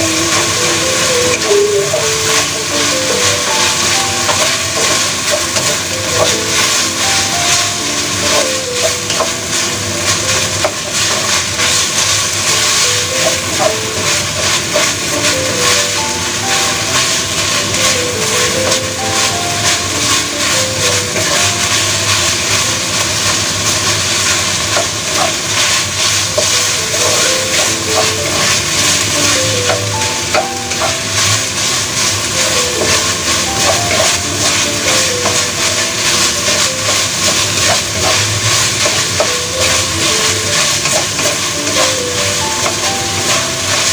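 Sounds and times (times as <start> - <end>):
faint melody: 0.0 - 43.9
meat sizzling in a wok: 0.0 - 43.9
wooden spatula scraping: 0.2 - 43.9.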